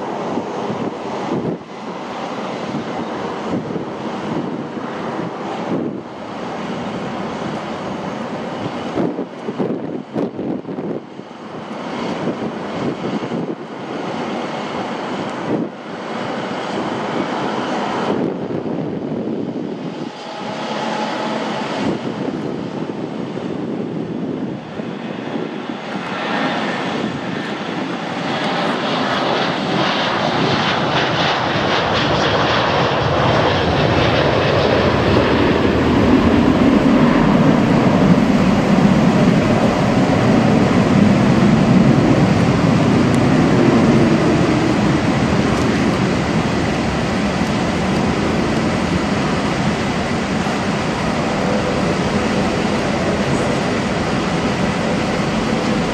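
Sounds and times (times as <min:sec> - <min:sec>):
jet engines roaring: 0:00.0 - 0:55.9.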